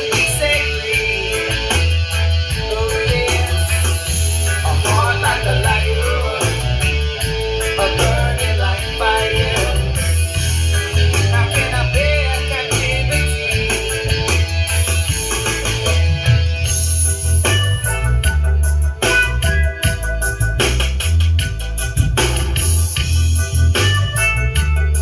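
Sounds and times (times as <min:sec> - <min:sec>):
song with guitar and heavy bass: 0:00.0 - 0:25.0.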